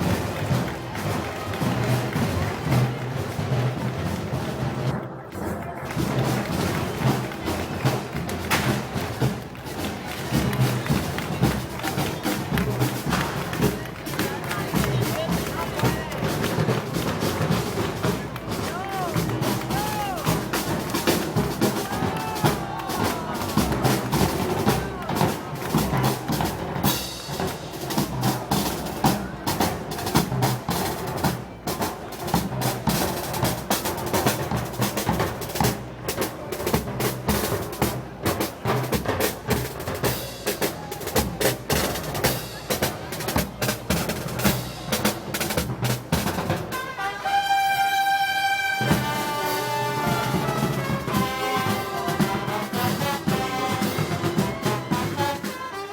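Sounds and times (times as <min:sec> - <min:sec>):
snare and bass drums: 0:00.0 - 0:48.0, 0:48.6 - 0:55.9
crowd voices: 0:00.0 - 0:55.9.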